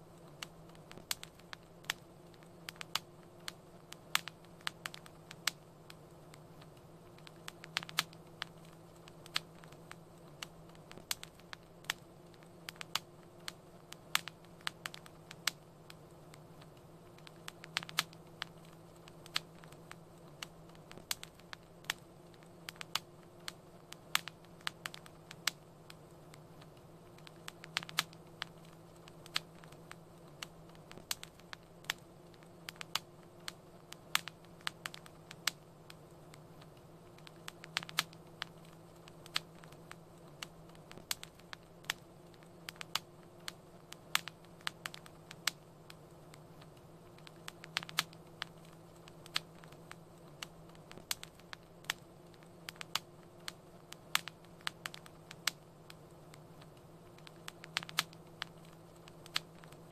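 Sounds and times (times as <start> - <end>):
low steady hum: 0.0 - 59.9
wood fire crackling: 0.0 - 59.9.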